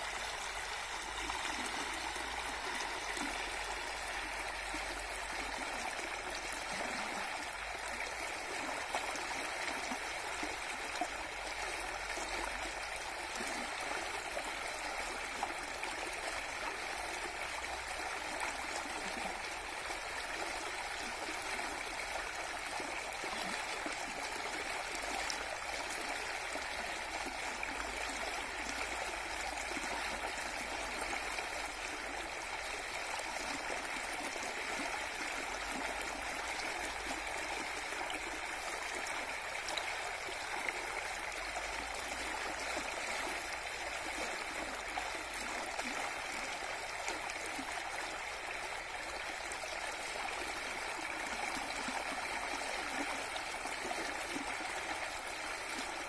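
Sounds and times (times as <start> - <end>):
stream water rushing and bubbling: 0.0 - 56.0.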